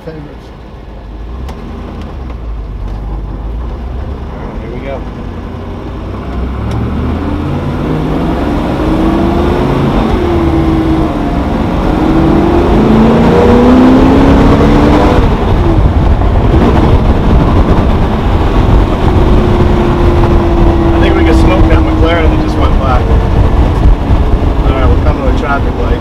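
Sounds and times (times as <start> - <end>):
car engine accelerating hard: 0.1 - 26.0.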